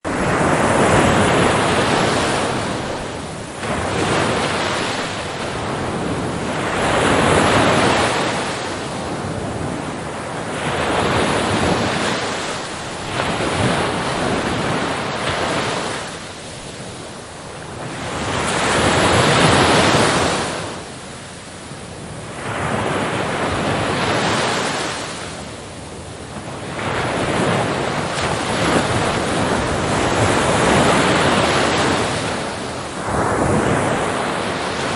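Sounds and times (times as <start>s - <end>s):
ocean waves crashing on shore: 0.0s - 34.9s.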